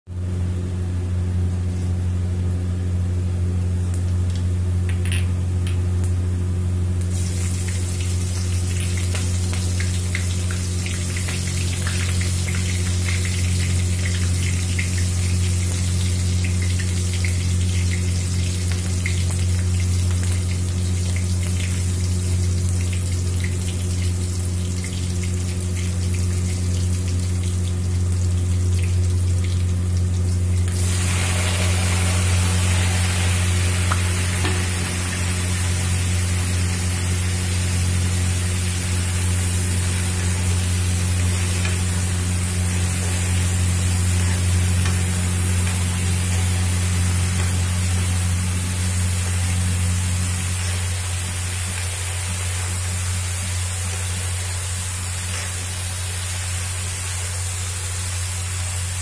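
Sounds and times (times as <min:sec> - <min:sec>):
steady low hum: 0:00.1 - 0:59.0
seeds sizzling in hot oil: 0:07.0 - 0:59.0.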